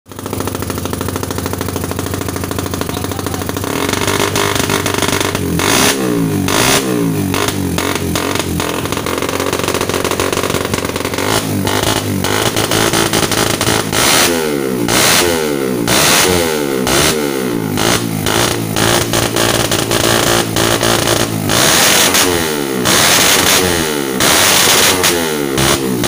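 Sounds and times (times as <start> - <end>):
motorcycle engine idling: 0.1 - 26.0
motorcycle engine revving: 0.1 - 26.0.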